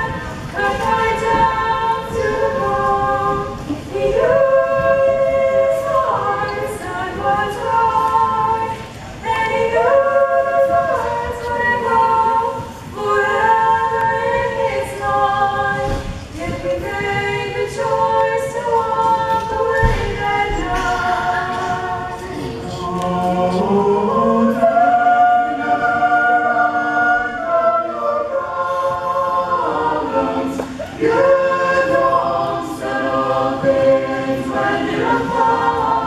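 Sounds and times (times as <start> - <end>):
choir singing a cappella: 0.0 - 36.0.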